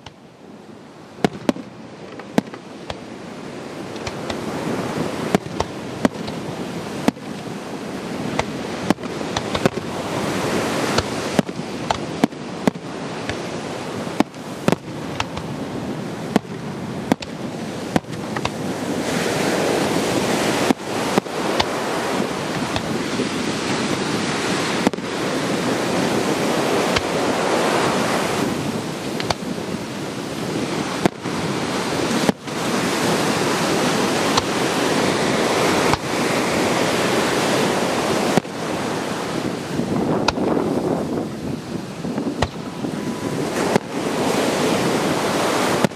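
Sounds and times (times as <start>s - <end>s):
ocean surf rushing: 0.0s - 45.9s
fireworks bangs: 1.1s - 45.9s.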